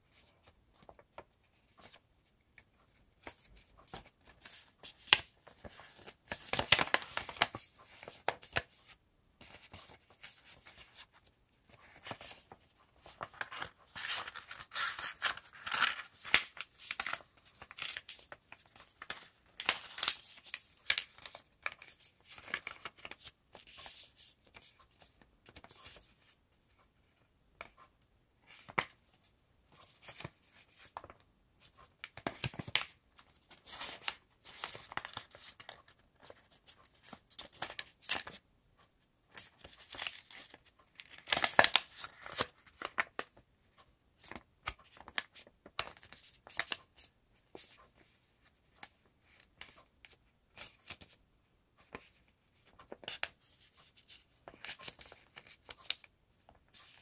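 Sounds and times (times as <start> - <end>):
paper rustling and crinkling: 2.6 - 26.4, 28.5 - 38.4, 39.3 - 51.2, 51.8 - 57.0.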